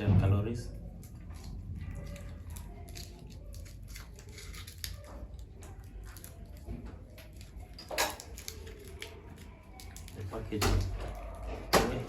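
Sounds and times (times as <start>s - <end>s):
wrapper crinkling and tearing: 0.9s - 11.5s.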